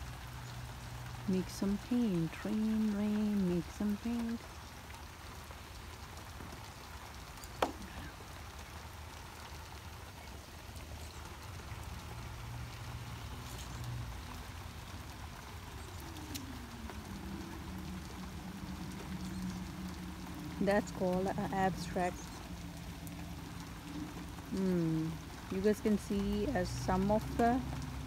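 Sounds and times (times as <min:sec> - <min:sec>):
steady rain patter: 0:00.0 - 0:28.0.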